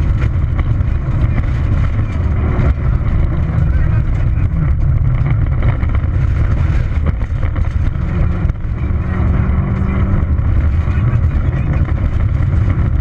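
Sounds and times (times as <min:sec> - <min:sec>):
car engine running hard: 0:00.0 - 0:13.0
gravel clicking against car: 0:00.0 - 0:13.0.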